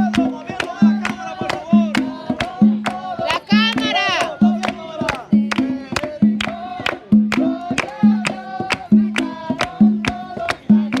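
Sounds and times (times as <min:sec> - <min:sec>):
group singing worship song: 0:00.0 - 0:11.0.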